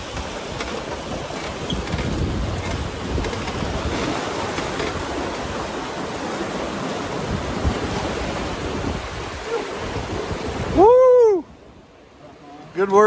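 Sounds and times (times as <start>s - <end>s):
wind rumbling on microphone: 0.0s - 12.0s
river water rushing: 0.0s - 13.0s.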